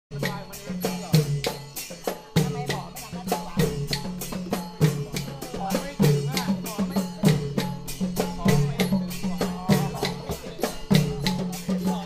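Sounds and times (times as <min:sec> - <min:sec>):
drums beating steady rhythm: 0:00.1 - 0:12.0.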